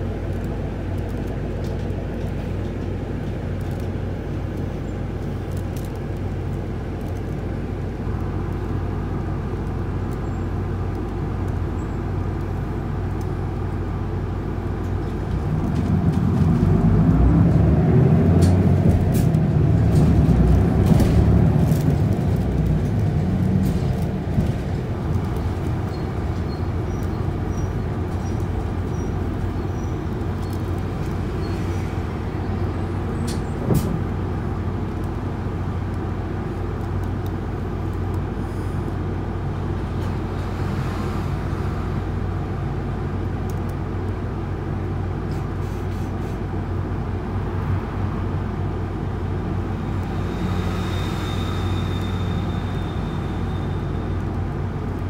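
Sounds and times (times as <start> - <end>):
diesel bus engine humming: 0.0 - 55.0
road noise: 0.0 - 55.0.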